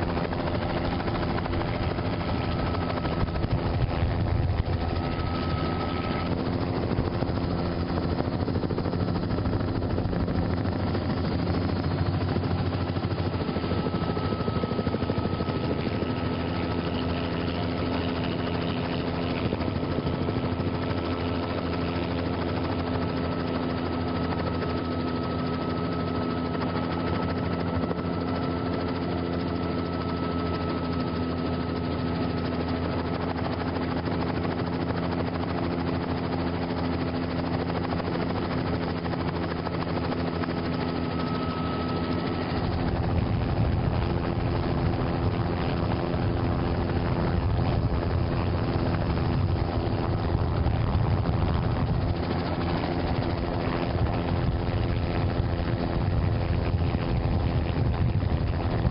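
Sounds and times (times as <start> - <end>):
helicopter engine and rotor drone: 0.0 - 58.9.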